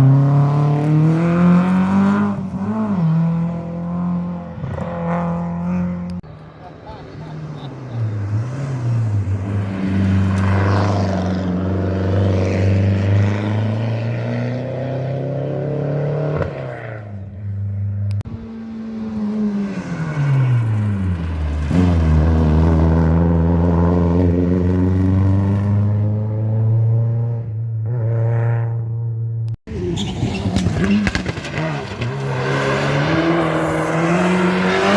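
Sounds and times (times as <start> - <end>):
car engine at high revs: 0.0 - 34.9.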